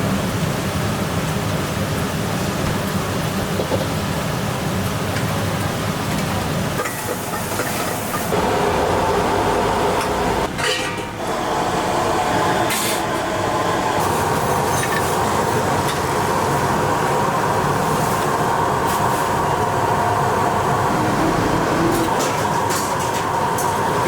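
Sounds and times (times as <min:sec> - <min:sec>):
kitchen roar: 0:00.0 - 0:24.0.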